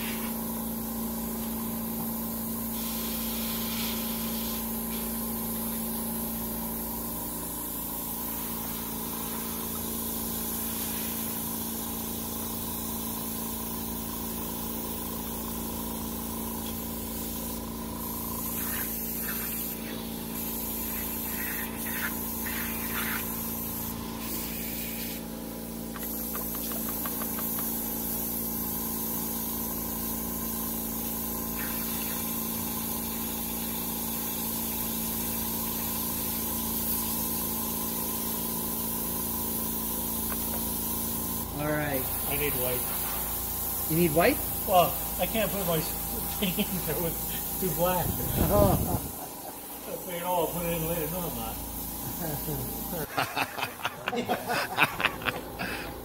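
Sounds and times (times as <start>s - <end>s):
airbrush hissing: 0.0s - 56.0s.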